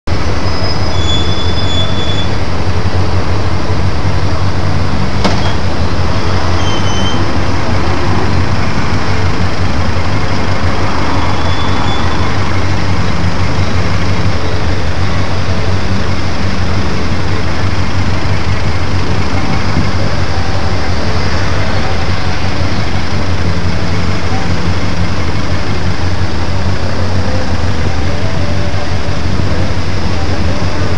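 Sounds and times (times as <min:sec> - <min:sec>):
motorcycle engine idling low: 0:00.1 - 0:30.9.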